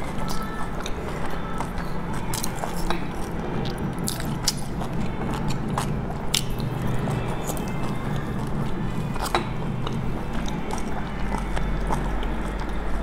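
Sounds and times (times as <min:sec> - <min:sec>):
low hum: 0:00.0 - 0:13.0
person chewing and smacking: 0:00.0 - 0:13.0.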